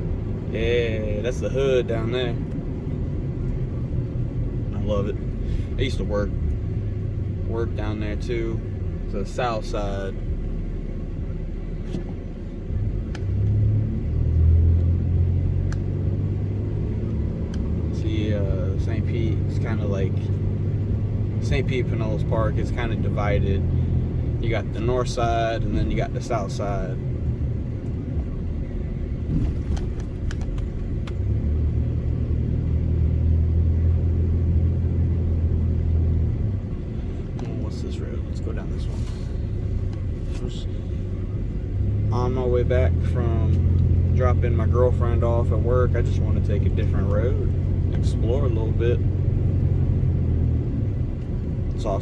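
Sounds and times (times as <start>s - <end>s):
truck engine and road rumble: 0.0s - 52.0s.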